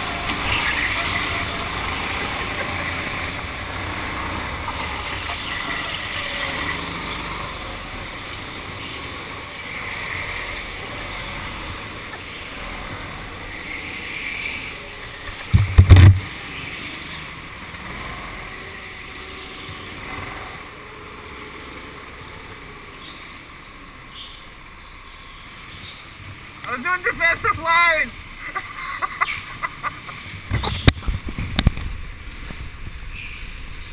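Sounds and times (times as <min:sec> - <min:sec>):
go-kart engine rumbling: 0:00.0 - 0:33.9.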